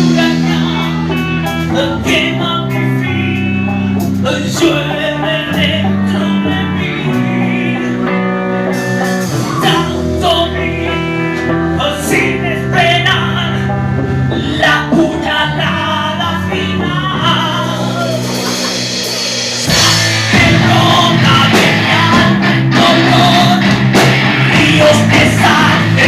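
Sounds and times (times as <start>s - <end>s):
electric guitar: 0.0s - 26.0s
rock band playing: 0.0s - 26.0s.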